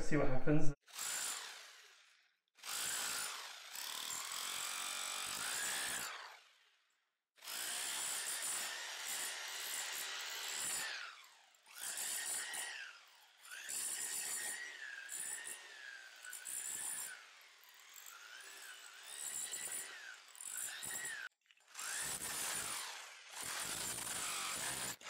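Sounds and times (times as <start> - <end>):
hammer drill chiselling wood blocks: 0.8 - 6.7, 7.4 - 25.0.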